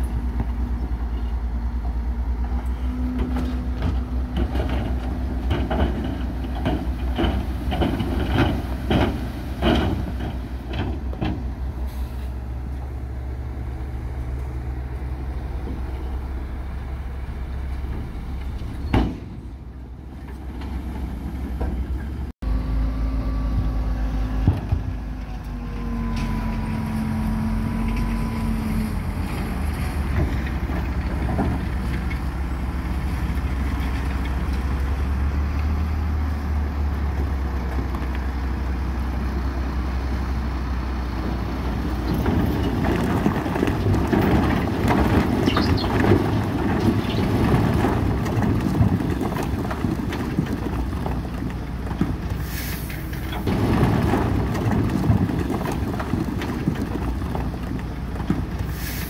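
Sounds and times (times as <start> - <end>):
diesel engine rumble: 0.0 - 59.0.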